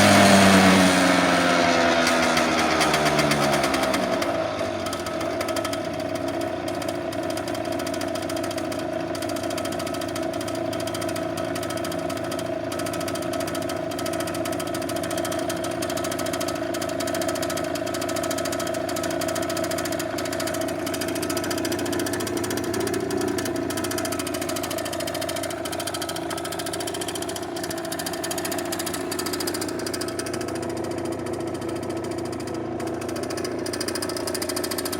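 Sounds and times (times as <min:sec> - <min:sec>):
scooter engine idling: 0:00.0 - 0:34.9.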